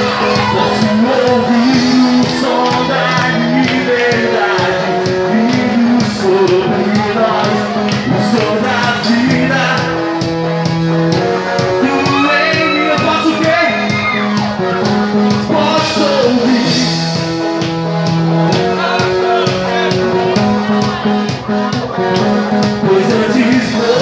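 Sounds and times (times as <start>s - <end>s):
person singing: 0.0s - 24.0s
rock band playing: 0.0s - 24.0s.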